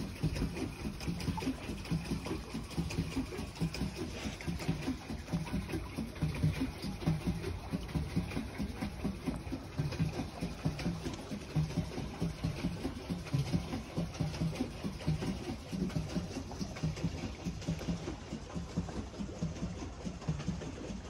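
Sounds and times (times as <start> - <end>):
paddle wheel churning water: 0.0 - 21.0.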